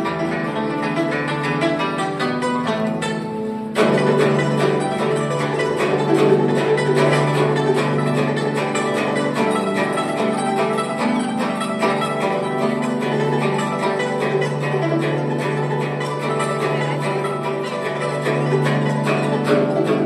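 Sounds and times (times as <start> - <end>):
plucked zither solo: 0.0 - 20.0.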